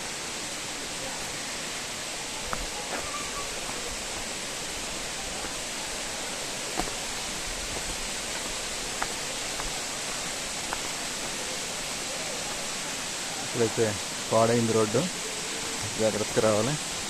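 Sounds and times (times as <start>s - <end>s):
stream and waterfall rushing: 0.0s - 17.0s.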